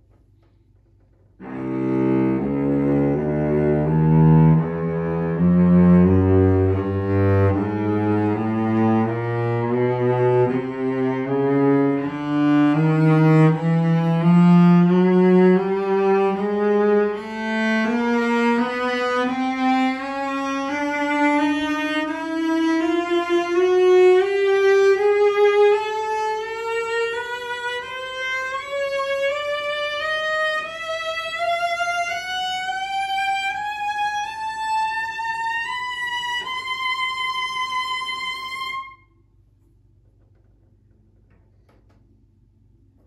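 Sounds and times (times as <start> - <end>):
cello bowed in a slow scale: 1.4 - 39.1.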